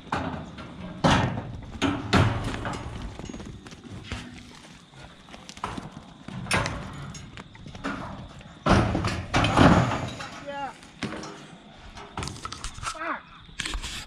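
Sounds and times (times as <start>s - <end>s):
sheep hooves clattering: 0.0s - 12.6s
knocks and rattles: 0.0s - 12.9s.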